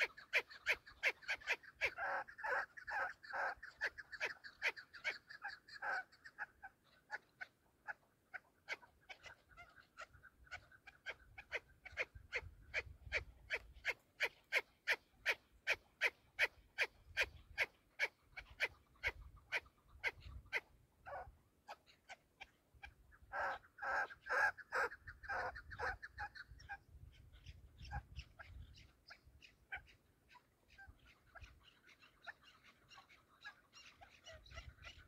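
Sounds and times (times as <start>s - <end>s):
partridges calling: 0.0s - 35.0s.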